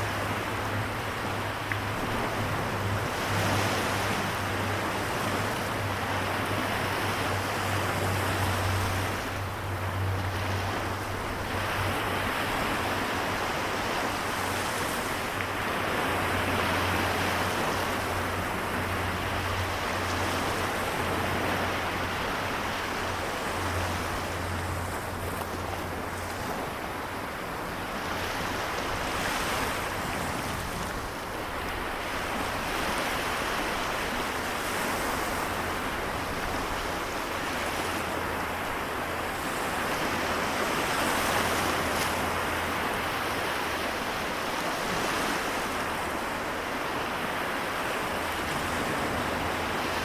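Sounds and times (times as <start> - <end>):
waves washing: 0.0 - 50.0.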